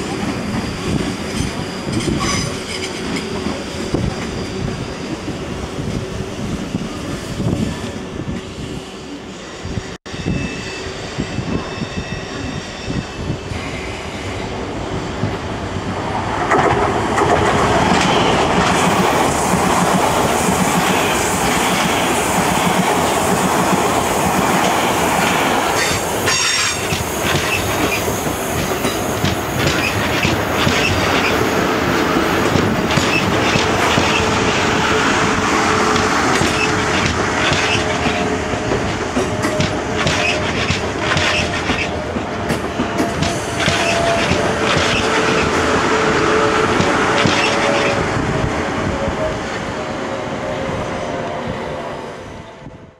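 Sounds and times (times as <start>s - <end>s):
train wheel-on-rail noise: 0.0s - 52.9s.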